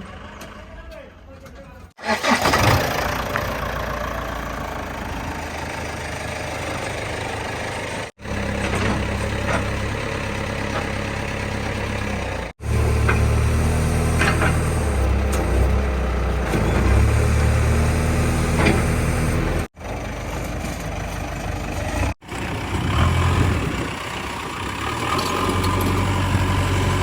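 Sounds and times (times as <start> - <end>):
heavy diesel engines running: 0.0 - 27.0.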